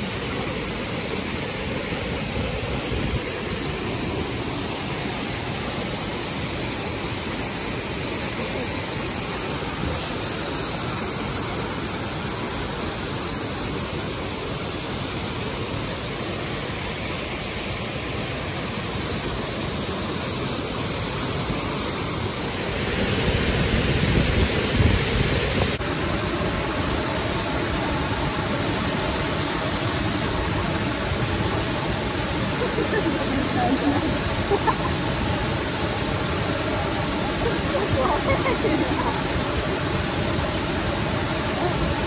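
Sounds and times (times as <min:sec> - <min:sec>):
waterfall and river rushing: 0:00.0 - 0:42.0.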